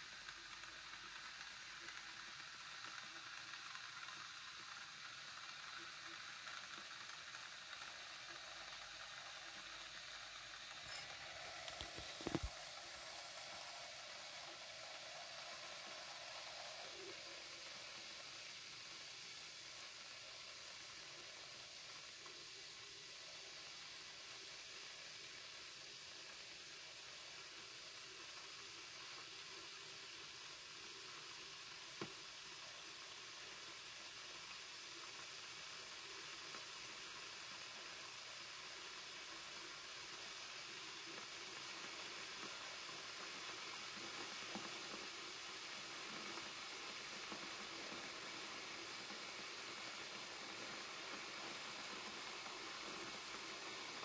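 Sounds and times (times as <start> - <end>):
kettle water hissing: 0.0 - 54.0.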